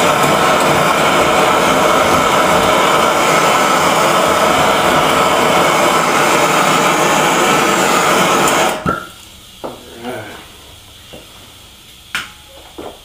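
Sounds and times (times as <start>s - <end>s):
gas torch burning: 0.0s - 13.0s.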